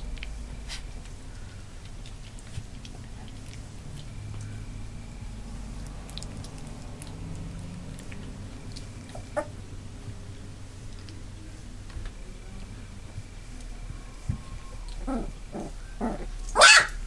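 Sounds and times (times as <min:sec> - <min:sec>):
puppies chewing and scuffling: 0:00.0 - 0:17.0.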